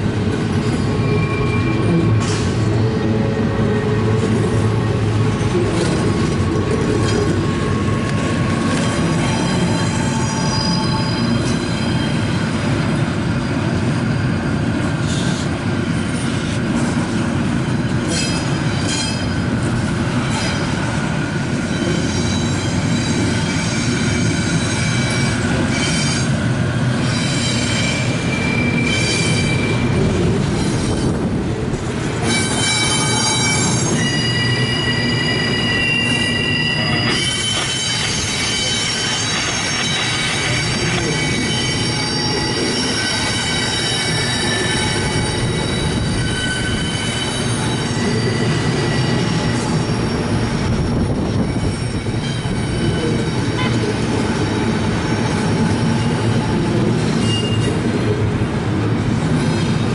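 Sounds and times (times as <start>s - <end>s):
train cars rolling past: 0.0s - 59.9s
train wheels squealing: 0.4s - 31.2s, 32.1s - 58.2s.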